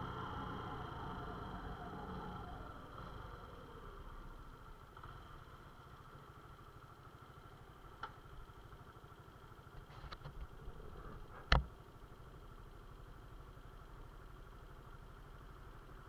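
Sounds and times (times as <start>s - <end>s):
motorcycle engine idling: 2.4s - 16.0s.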